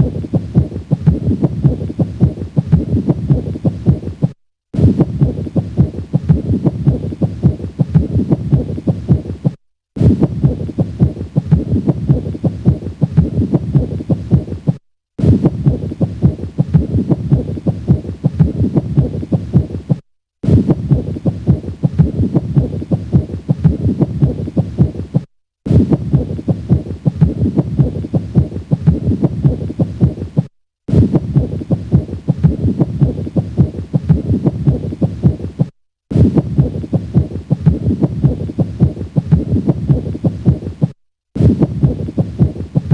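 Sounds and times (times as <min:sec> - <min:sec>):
heartbeat through stethoscope: 0:00.0 - 0:42.9.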